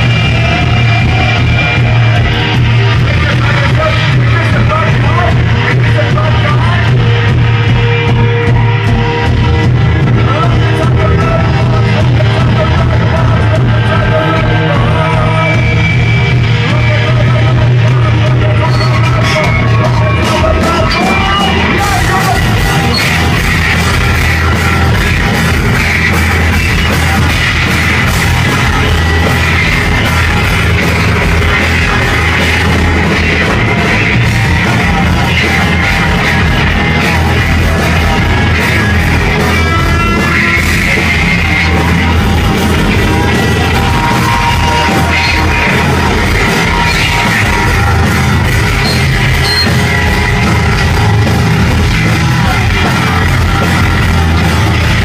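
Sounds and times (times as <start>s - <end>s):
shouted vocals: 0.0s - 7.0s, 10.2s - 55.0s
rock band playing live: 0.0s - 55.0s.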